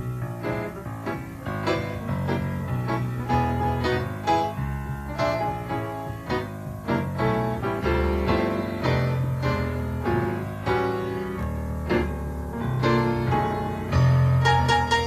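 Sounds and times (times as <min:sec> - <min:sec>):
electric bass deep notes: 0:00.0 - 0:15.0
keyboard chords: 0:00.0 - 0:15.0.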